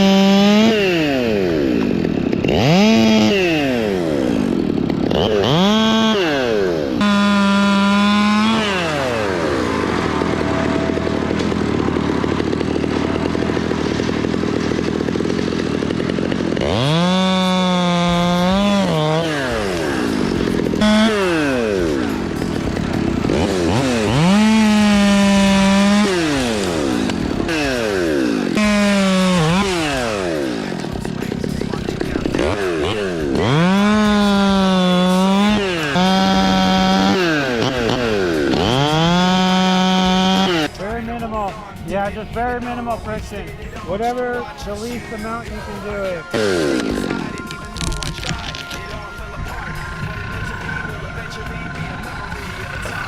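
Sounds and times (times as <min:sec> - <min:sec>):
chainsaw engine revving: 0:00.0 - 0:42.0, 0:43.8 - 0:53.0.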